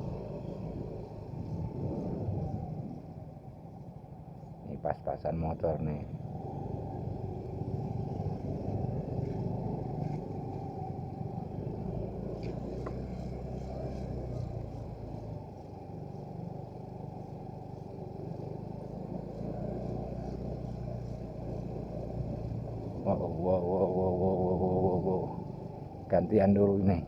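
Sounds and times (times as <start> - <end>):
muffled motorcycle engine: 0.0 - 27.0.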